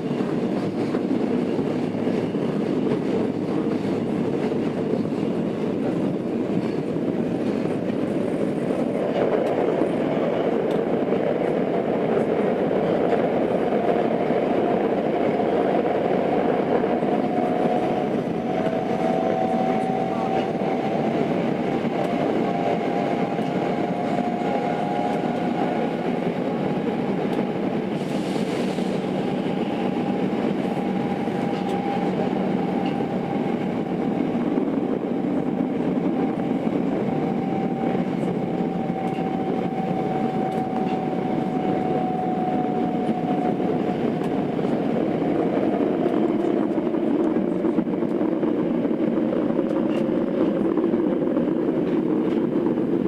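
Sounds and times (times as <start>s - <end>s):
subway car rumbling: 0.0s - 53.0s.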